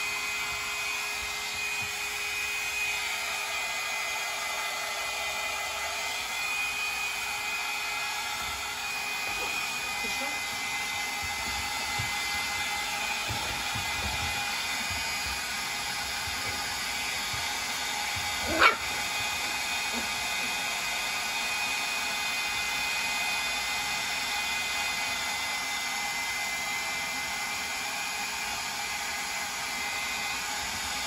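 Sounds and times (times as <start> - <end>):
hairdryer running: 0.0 - 31.0.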